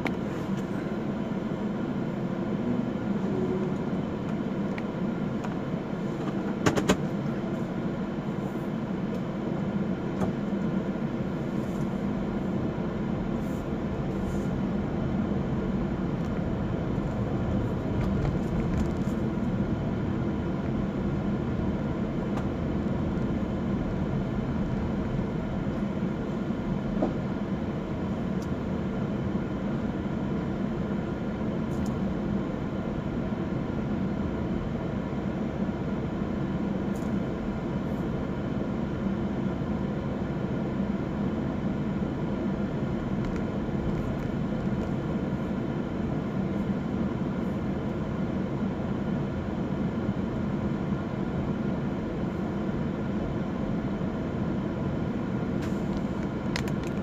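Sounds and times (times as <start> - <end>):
car engine and road drone: 0.0 - 57.0.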